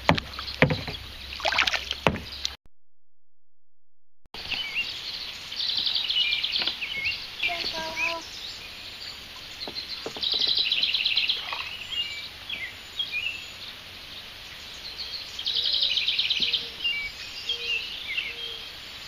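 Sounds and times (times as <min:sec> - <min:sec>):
birds chirping: 0:00.0 - 0:02.6, 0:04.4 - 0:19.0.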